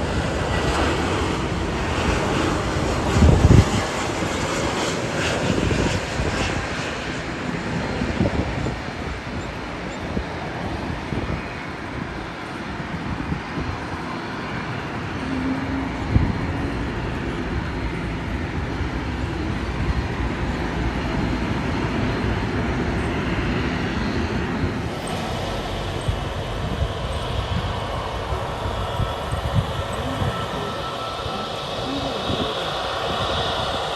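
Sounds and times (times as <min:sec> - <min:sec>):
jet engines rumbling: 0:00.0 - 0:33.9.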